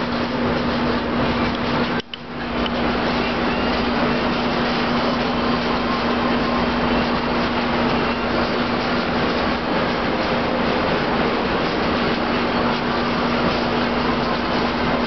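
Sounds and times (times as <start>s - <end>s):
tumble dryer running: 0.0s - 15.0s.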